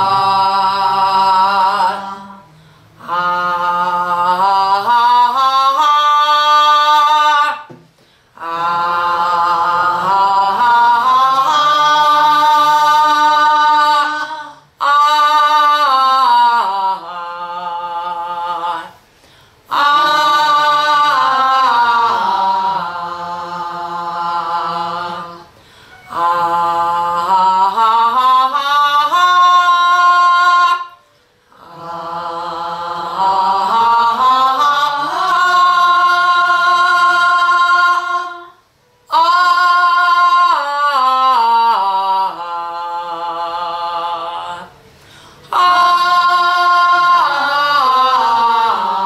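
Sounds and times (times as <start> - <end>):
group singing in unison: 0.0 - 49.0.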